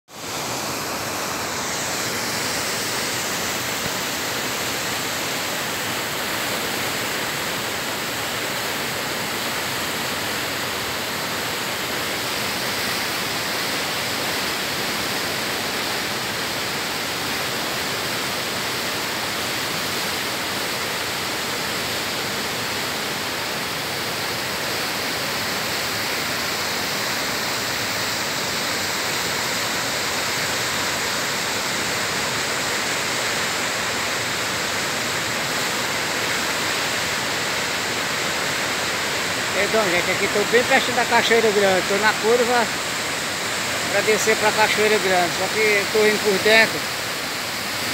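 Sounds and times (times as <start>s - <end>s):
waterfall rushing over rock: 0.1s - 47.9s.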